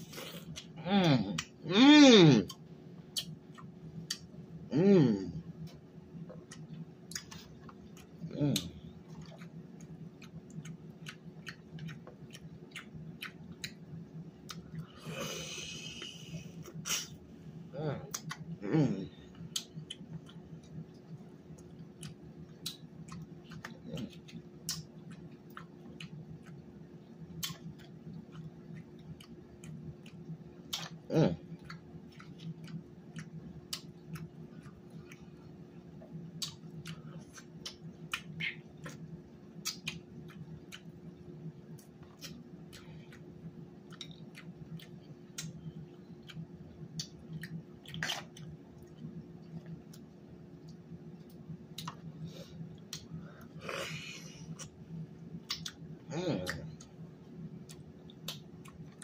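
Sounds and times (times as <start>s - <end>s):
steady low hum: 0.0s - 59.0s
chewing: 5.7s - 16.0s, 19.3s - 41.1s, 41.7s - 53.9s, 54.5s - 57.0s, 57.6s - 59.0s.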